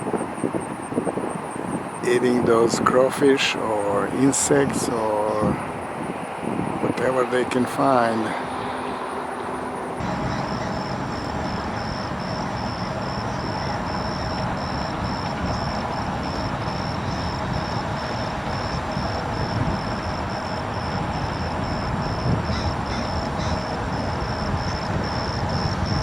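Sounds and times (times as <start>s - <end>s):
broad background noise: 0.0s - 26.0s
insect chirping: 0.0s - 26.0s.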